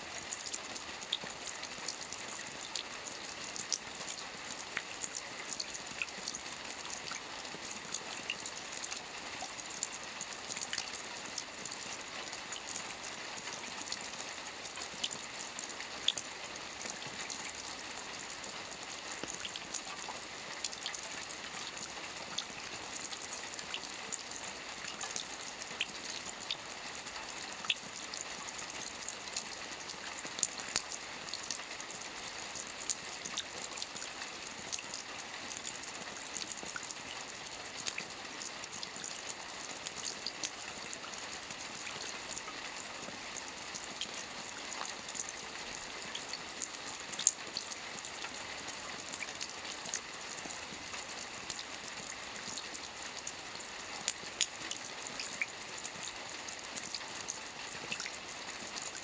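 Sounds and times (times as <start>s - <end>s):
raindrops ticking on a surface: 0.0s - 59.0s
steady rain hiss: 0.0s - 59.0s.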